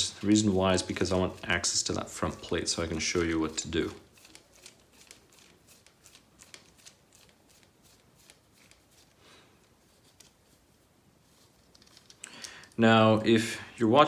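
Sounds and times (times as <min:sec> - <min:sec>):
handling plastic parts: 0:00.0 - 0:13.0.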